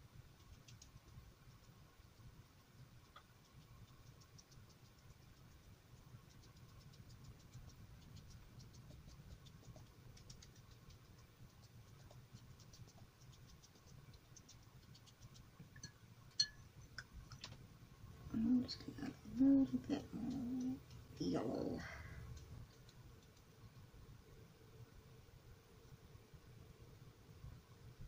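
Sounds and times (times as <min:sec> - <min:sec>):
paintbrush ticking and patting: 0:00.0 - 0:24.3.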